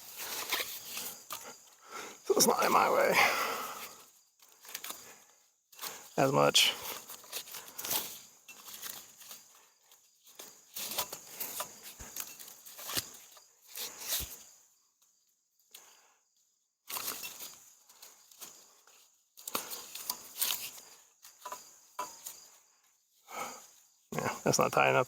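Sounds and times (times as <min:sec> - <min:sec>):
rustling and handling gear: 0:00.0 - 0:24.8
high cricket trill: 0:00.0 - 0:25.0.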